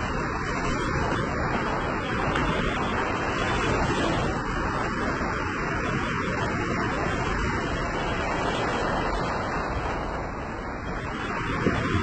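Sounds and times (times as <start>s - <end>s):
small waves on sandy beach: 0.0s - 12.0s.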